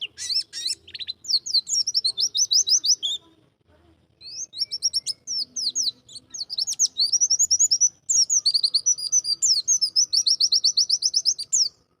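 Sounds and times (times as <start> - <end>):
bird twittering song: 0.0 - 3.3, 4.2 - 12.0.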